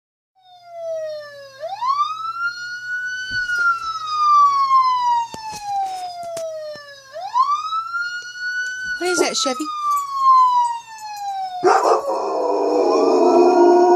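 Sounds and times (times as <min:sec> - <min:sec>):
police siren wail through speaker: 0:00.4 - 0:13.9.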